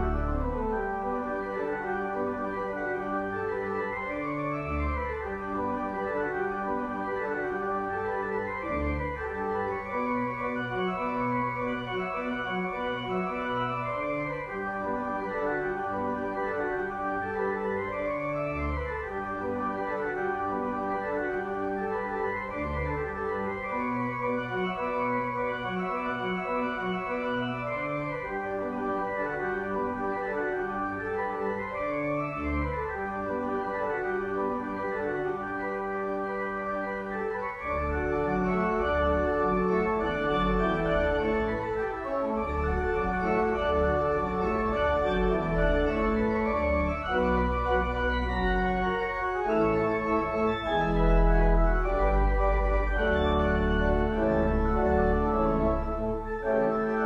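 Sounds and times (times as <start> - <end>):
deep organ bass pedal notes: 0.0 - 57.0
organ chords: 0.0 - 57.0.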